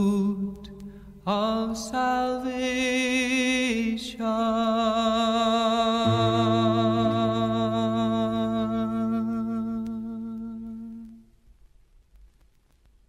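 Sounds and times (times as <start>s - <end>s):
solo voice singing with vibrato: 0.0s - 11.2s.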